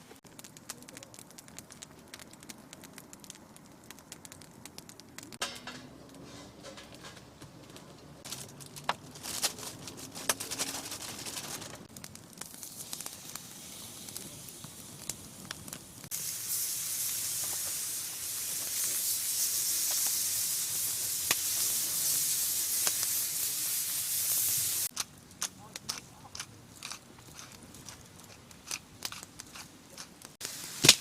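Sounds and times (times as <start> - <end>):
crackles and clicks: 0.0 - 31.0
steady sizzle: 0.0 - 31.0.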